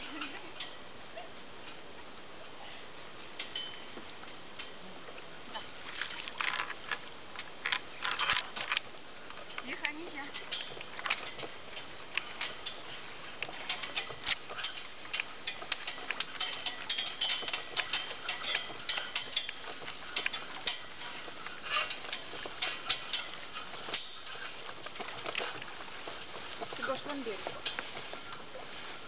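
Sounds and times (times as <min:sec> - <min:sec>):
rope and fittings clicking: 0:00.0 - 0:02.2, 0:02.8 - 0:29.0.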